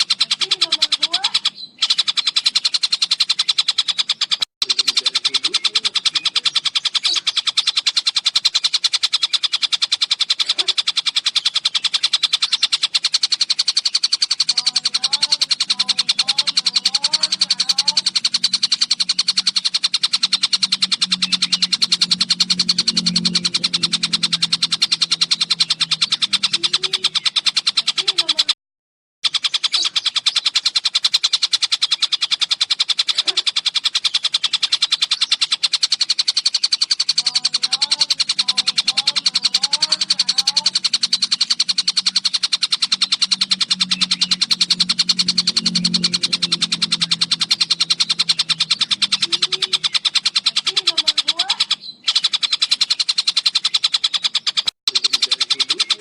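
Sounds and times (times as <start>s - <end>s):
bird song rapid high notes: 0.0s - 28.6s, 29.2s - 56.0s.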